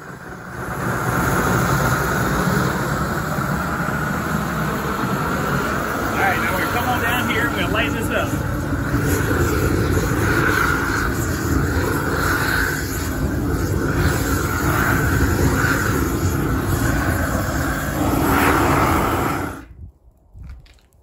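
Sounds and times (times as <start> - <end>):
propane torch roaring: 0.0 - 20.0.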